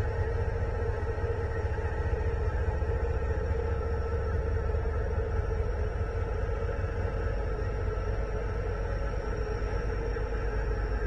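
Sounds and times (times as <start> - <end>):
locomotive engine rumble: 0.0 - 11.0.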